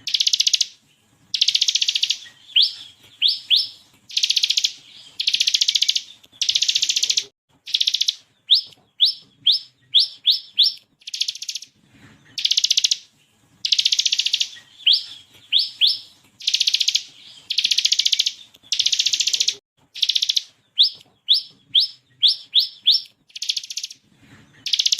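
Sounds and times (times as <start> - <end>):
bird singing rattling trills: 0.0 - 24.9.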